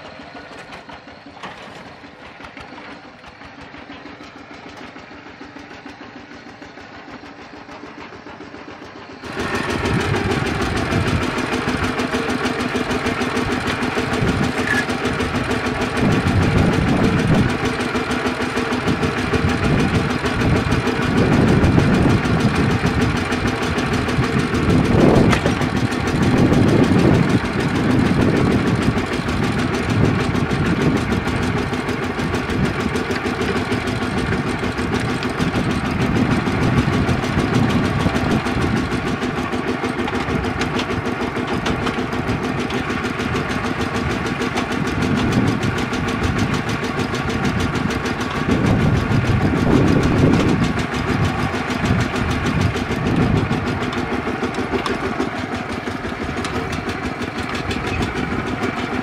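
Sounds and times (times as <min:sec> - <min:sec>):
walking tractor engine idling: 0:00.0 - 0:59.0.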